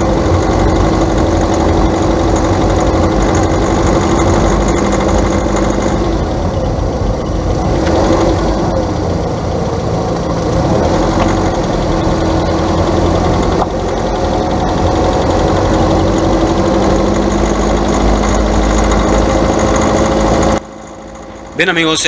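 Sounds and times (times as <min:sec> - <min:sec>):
car engine running: 0:00.0 - 0:22.0
rapid engine ticking: 0:00.0 - 0:22.0.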